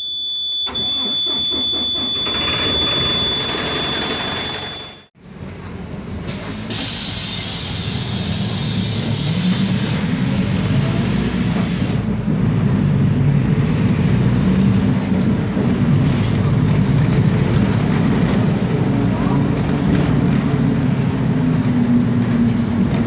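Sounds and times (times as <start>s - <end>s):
bus diesel engine droning: 0.6s - 23.0s.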